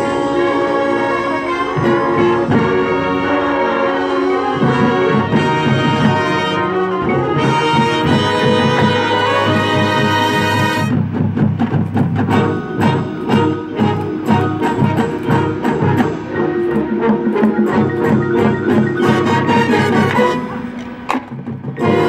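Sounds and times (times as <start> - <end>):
brass section loud chords: 0.0 - 11.2, 12.2 - 21.1, 21.8 - 22.0
marching percussion: 0.0 - 22.0.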